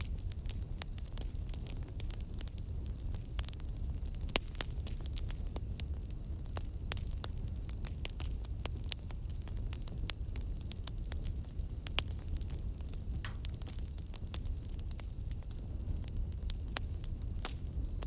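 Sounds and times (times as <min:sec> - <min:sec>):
low rumble of flame: 0:00.0 - 0:18.0
wood fire crackling and popping: 0:00.0 - 0:18.0.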